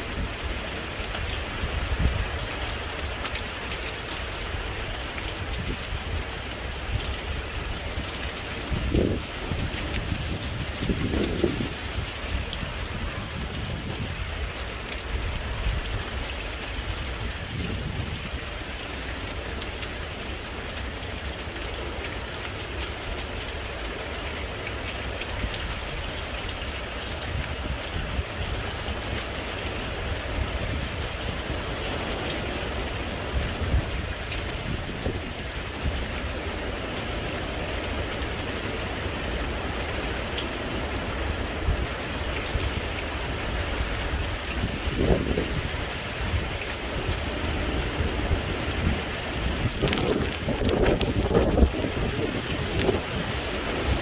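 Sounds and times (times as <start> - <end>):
heavy rain falling: 0.0 - 54.0
sharp raindrop hits: 0.0 - 54.0
wind buffeting microphone: 0.0 - 54.0.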